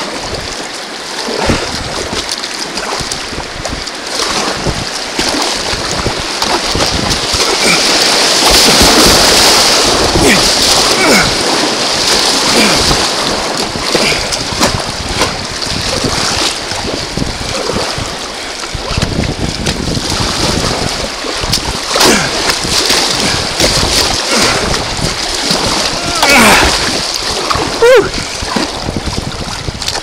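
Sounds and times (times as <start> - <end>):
river rapids rushing: 0.0 - 18.9, 20.2 - 29.0
paddle strokes in water: 0.0 - 30.0
wind buffeting microphone: 1.3 - 30.0.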